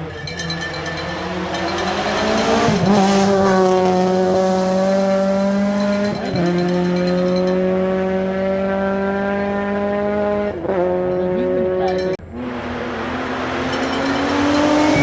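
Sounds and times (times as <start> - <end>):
rally car engine at high revs: 0.0 - 15.0.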